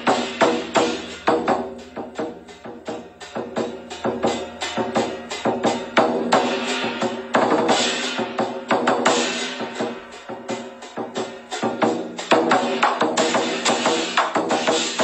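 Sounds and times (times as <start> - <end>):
drum beaten in fast rhythm: 0.0 - 15.0
ringing cymbal crashes: 0.0 - 15.0.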